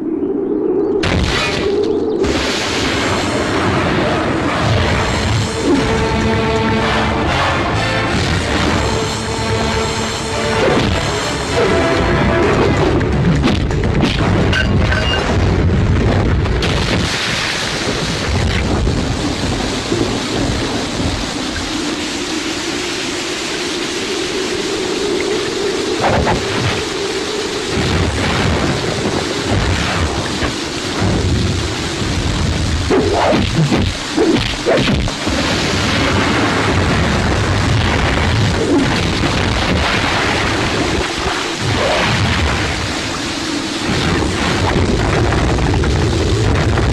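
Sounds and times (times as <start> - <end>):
deep rumble: 0.0 - 46.9
loud steady rushing noise: 0.0 - 46.9
heavy rain pouring: 1.0 - 46.9.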